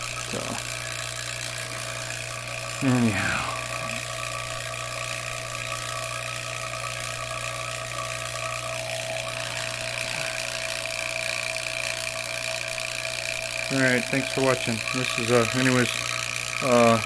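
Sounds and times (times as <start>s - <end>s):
constant tones: 0.0s - 17.0s
vacuum pump motor hum: 0.0s - 17.0s.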